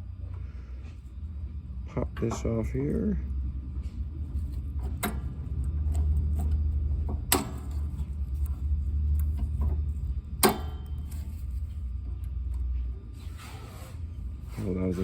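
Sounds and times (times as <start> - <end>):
steady low rumble: 0.0 - 13.3.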